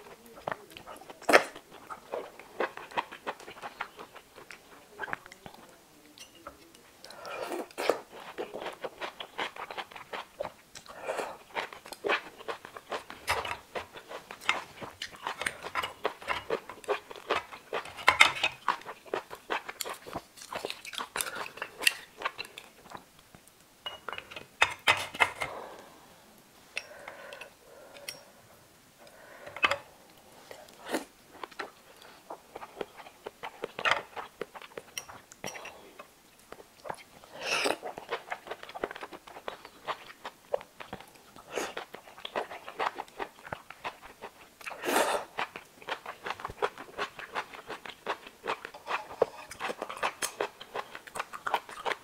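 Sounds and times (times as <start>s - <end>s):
chewing with wet smacks: 0.0s - 23.6s, 30.6s - 52.0s.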